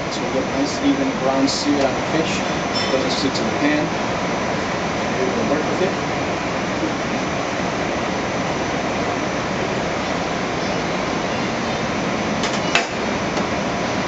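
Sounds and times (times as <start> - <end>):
gas burner roaring: 0.0 - 14.0
ventilation: 0.0 - 14.0.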